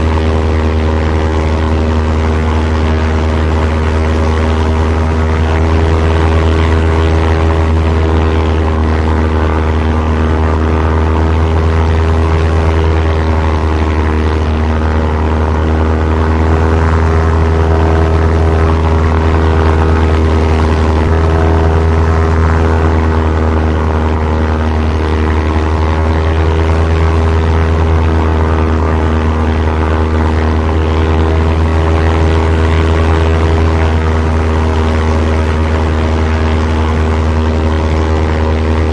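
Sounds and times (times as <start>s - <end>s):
propeller airplane engine droning: 0.0s - 38.9s.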